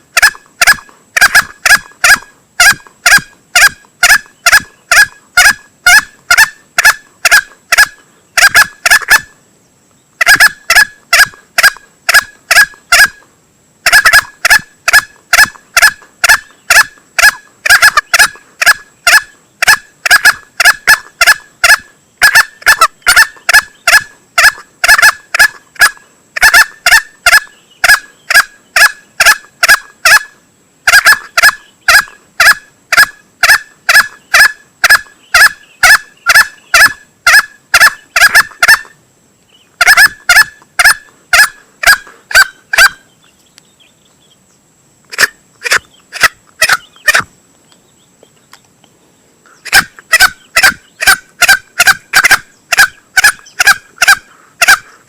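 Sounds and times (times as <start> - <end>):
junglefowl lure calls: 0.2 - 9.4, 10.2 - 13.2, 13.8 - 39.0, 39.8 - 43.1, 45.1 - 47.3, 49.5 - 54.9.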